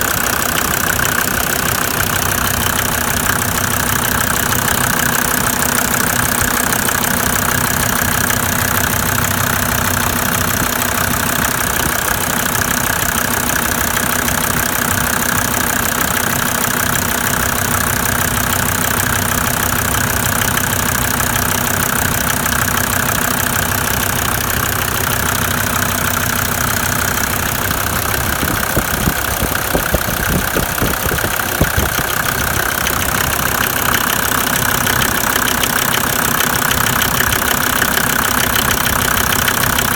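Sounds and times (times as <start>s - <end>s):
diesel engine idling unevenly: 0.0s - 39.9s
engine knocking clatter: 0.0s - 39.9s.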